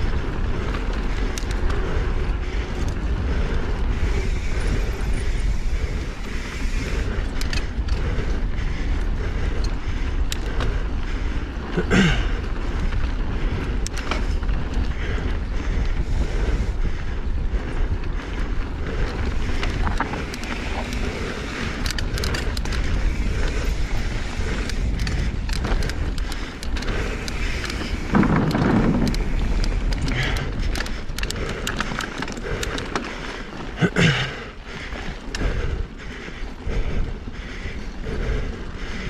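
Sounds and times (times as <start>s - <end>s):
bike clicks and rattles: 0.0s - 39.0s
knobby tyres on dirt: 0.0s - 39.0s
wind buffeting microphone: 0.0s - 39.0s.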